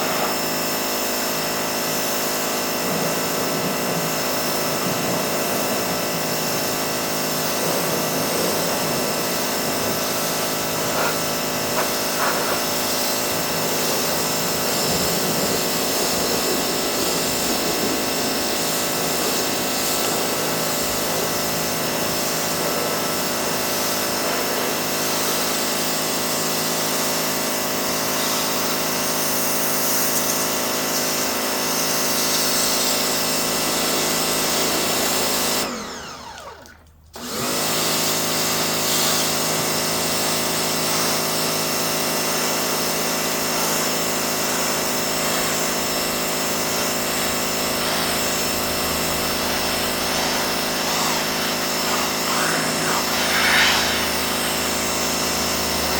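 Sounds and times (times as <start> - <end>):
pressure washer spraying: 0.0 - 55.9.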